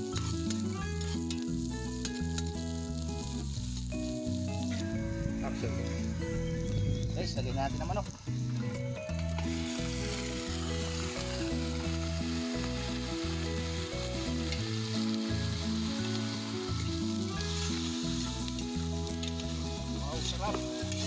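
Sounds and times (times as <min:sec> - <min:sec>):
background music with bass line: 0:00.0 - 0:21.0
chicken sizzling in a pot: 0:00.0 - 0:21.0.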